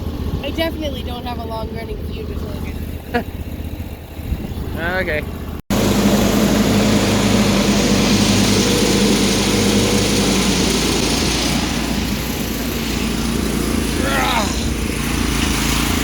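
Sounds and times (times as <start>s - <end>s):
small tractor engine running: 0.0s - 16.0s.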